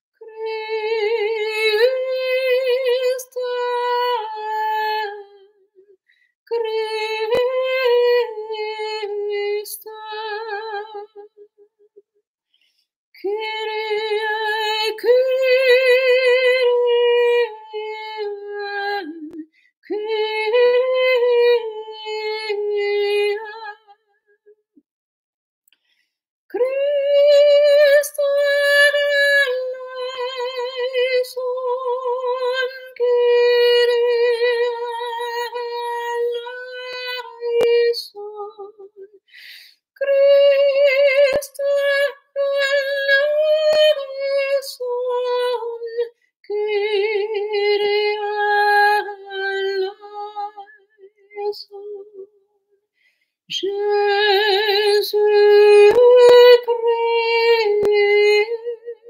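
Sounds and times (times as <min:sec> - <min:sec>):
woman singing with vibrato: 0:00.2 - 0:05.5, 0:06.5 - 0:11.4, 0:13.2 - 0:23.9, 0:26.5 - 0:39.1, 0:40.0 - 0:52.3, 0:53.5 - 0:59.0.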